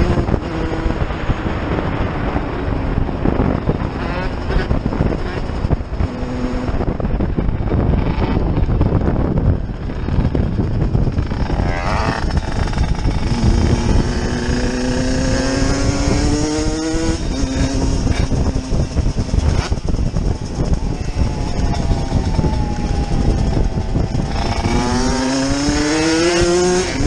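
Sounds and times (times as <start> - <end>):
motorcycle engine revving: 0.0 - 27.0
wind noise on microphone: 0.0 - 27.0.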